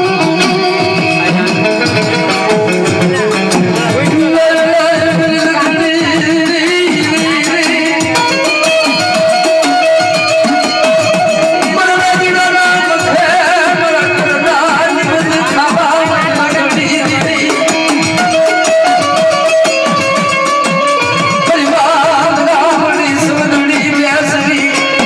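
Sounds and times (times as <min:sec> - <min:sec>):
drums keeping a steady beat: 0:00.0 - 0:25.0.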